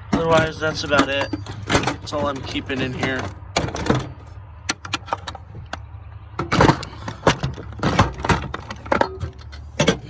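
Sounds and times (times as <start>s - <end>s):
tools clattering in a tool box: 0.0s - 5.8s, 6.4s - 10.0s.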